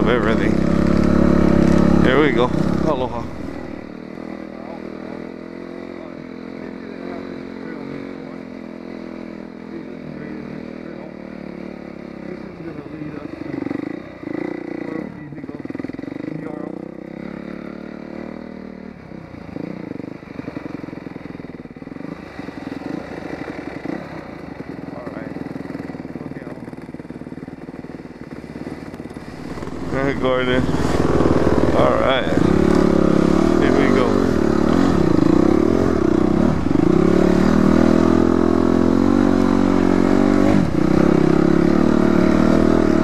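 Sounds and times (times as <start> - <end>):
dirt bike engine chugging: 0.0 - 43.0.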